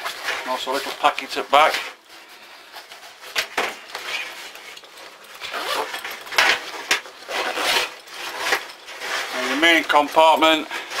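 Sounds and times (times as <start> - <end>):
backpack cloth and zips rustling: 0.0 - 11.0.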